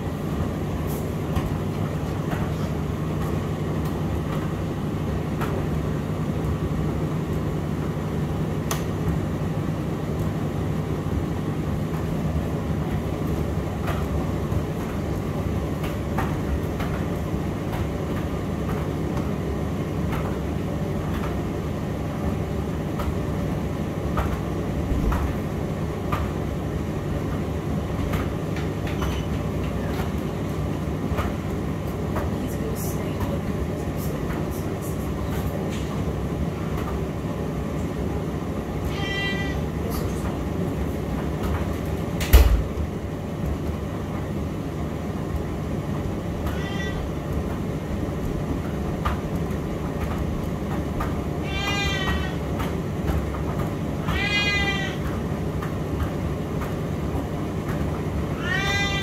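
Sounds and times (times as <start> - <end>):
tumble dryer humming: 0.0 - 59.0.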